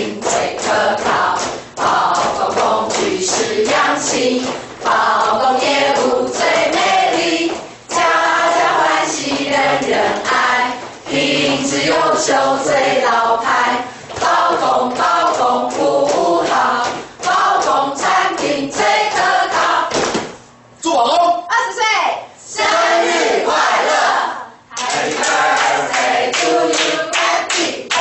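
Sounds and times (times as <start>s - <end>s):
group of voices singing: 0.0s - 20.2s, 22.5s - 28.0s.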